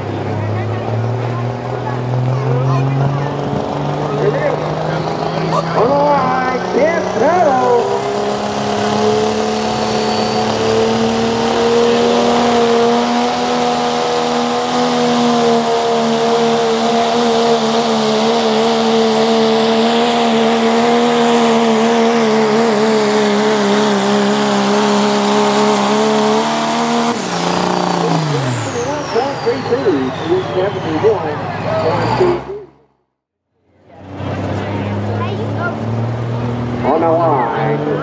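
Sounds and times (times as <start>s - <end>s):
diesel engine at high revs: 0.0s - 38.0s.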